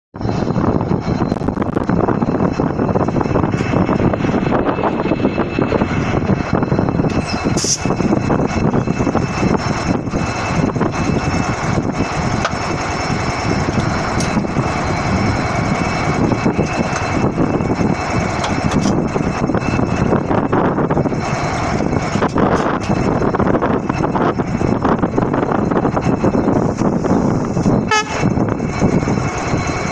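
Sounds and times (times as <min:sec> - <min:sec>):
diesel locomotive engine idling: 0:00.2 - 0:29.9.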